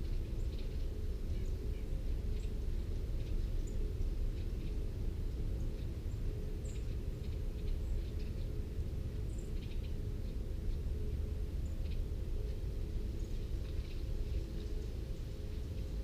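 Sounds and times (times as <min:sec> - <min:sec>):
small birds calling: 0:00.0 - 0:16.0.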